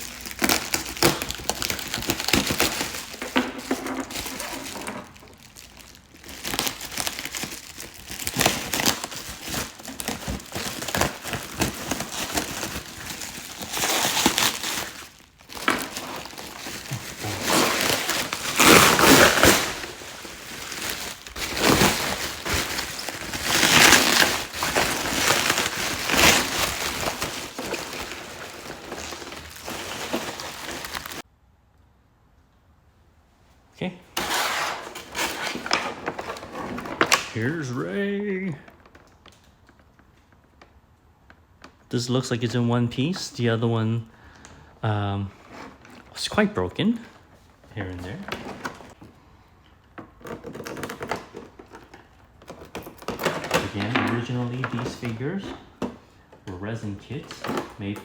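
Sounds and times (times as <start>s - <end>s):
packaging crinkling and rustling: 0.0s - 31.3s, 34.2s - 44.6s, 45.2s - 58.0s.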